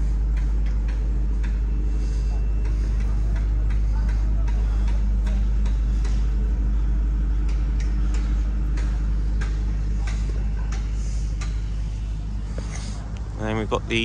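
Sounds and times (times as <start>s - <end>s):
large engine running: 0.0s - 14.0s.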